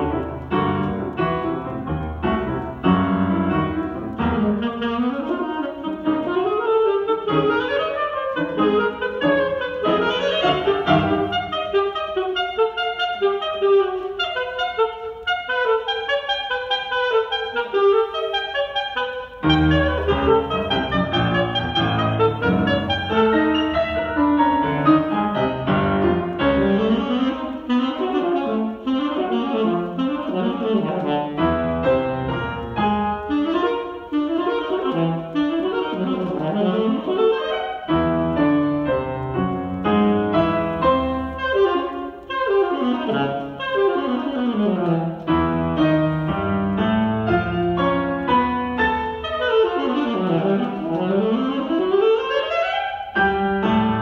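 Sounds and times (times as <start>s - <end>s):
alto saxophone: 0.0s - 54.0s
piano: 0.0s - 54.0s.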